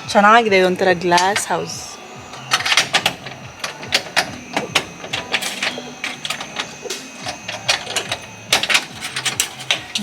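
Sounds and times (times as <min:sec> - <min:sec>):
belongings clicking and knocking: 0:00.9 - 0:10.0.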